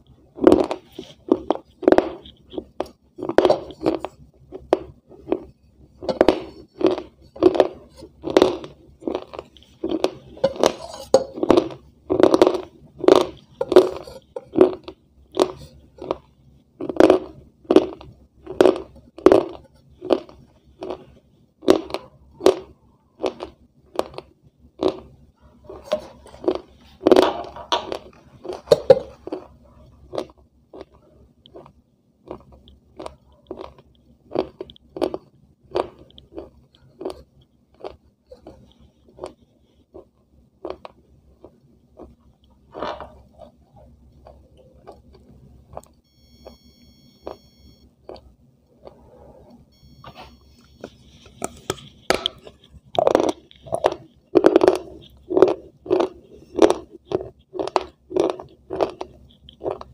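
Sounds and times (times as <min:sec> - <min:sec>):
crunchy food chewing: 0:00.1 - 0:49.1, 0:49.8 - 0:59.9.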